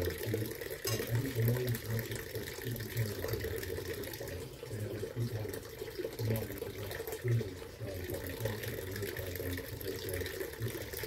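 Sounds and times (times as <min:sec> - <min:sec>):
water fountain trickling and bubbling: 0:00.0 - 0:11.0.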